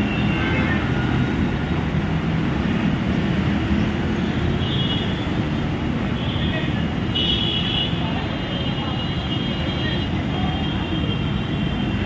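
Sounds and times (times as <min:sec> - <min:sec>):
dense road traffic rumble: 0:00.0 - 0:12.0.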